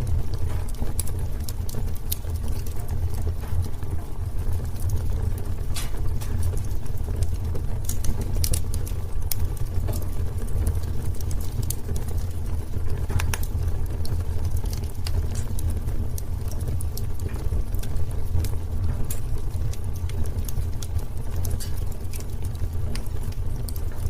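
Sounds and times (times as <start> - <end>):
fire low rumble: 0.0 - 24.0
wood fire crackling and popping: 0.0 - 24.0.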